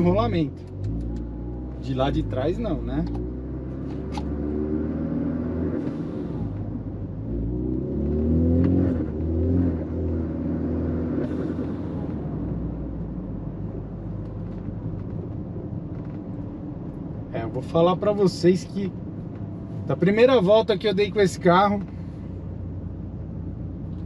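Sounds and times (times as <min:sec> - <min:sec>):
car engine accelerating: 0:00.0 - 0:24.0
road rumble: 0:00.0 - 0:24.0.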